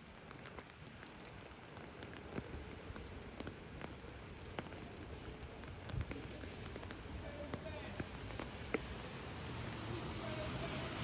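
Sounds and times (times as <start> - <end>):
raindrops landing close by: 0.0 - 11.0
steady rain: 0.0 - 11.0.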